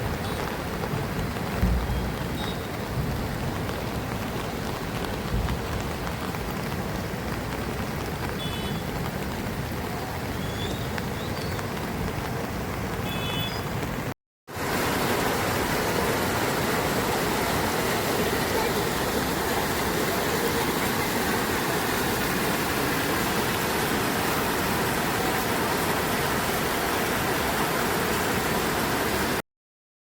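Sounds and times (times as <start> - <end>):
torrential rain pouring: 0.0 - 29.4.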